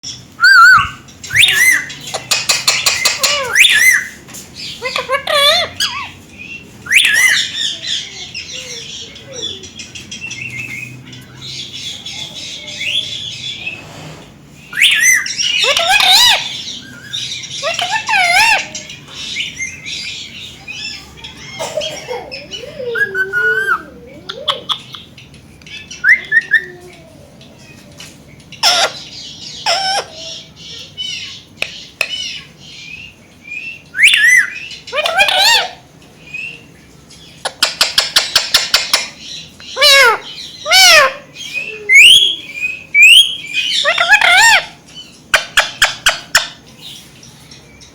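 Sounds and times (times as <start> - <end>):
parakeets chattering: 0.0 - 47.9
parakeets squawking: 0.1 - 27.8, 28.5 - 47.1
talk-like bird calls: 0.1 - 47.9.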